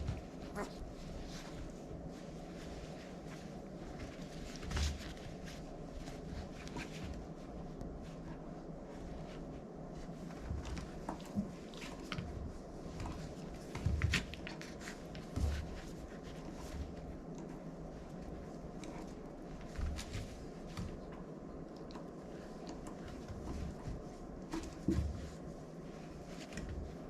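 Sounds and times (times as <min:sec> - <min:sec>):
puppies moving about: 0:00.0 - 0:08.2, 0:10.0 - 0:27.0
steady low hum: 0:00.0 - 0:27.0.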